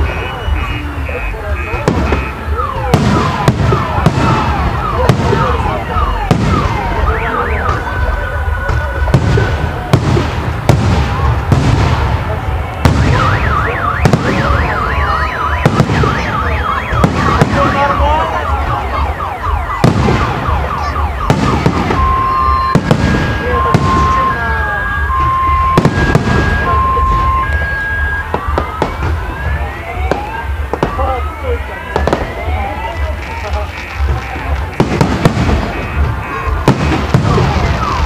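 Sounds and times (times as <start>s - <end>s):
car alarm wailing: 0.0s - 10.0s, 11.0s - 38.0s
car alarm steady beeping: 0.0s - 38.0s
fireworks bursting with sharp bangs: 0.0s - 38.0s.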